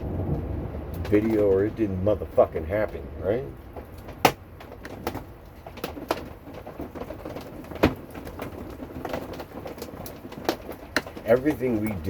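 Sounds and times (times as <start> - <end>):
raindrops knocking on camper roof: 0.0 - 12.0.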